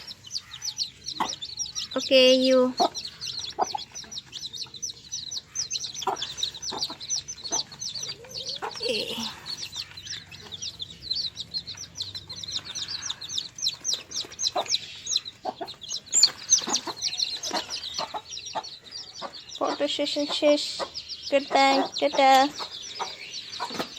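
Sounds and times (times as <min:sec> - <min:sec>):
chicks peeping: 0:00.0 - 0:23.9.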